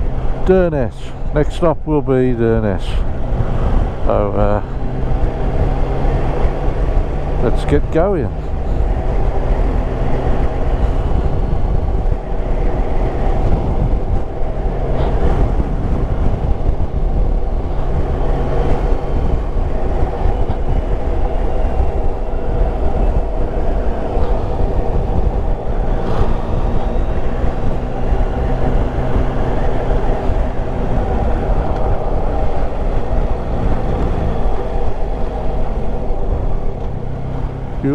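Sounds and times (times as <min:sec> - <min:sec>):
wind rush: 0:00.0 - 0:37.9.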